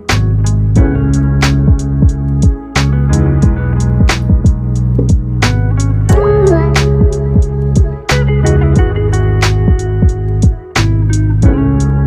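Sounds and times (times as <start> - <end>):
drums: 0.0 - 11.9
guitar: 0.0 - 12.0.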